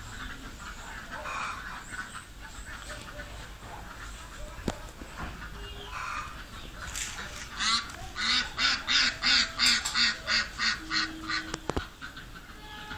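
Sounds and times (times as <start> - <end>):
fowl calling: 0.0 - 12.9.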